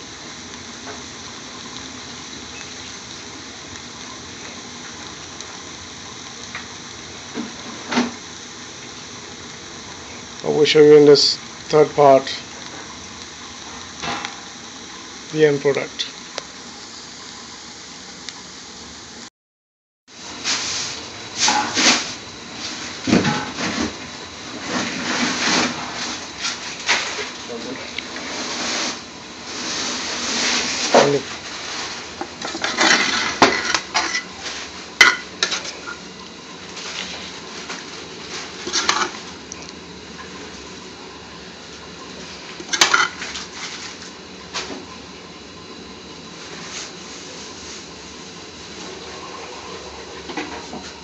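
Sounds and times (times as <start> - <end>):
pot cooking with steady hiss: 0.0 - 19.3, 20.1 - 51.0.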